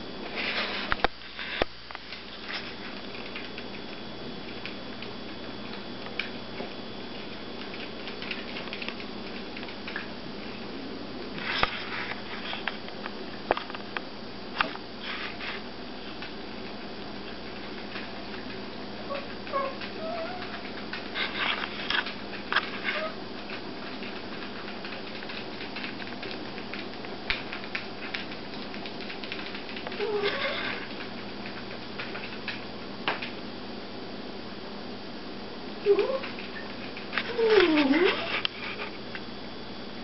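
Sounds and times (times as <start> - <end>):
steady household hum: 0.0 - 40.0.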